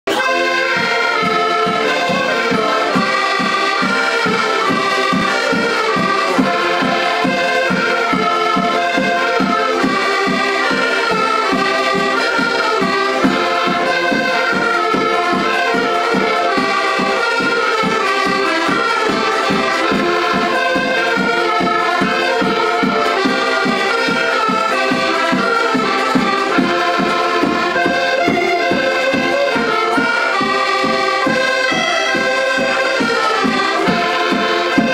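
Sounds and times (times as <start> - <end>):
button accordions playing folk tune: 0.0 - 34.9.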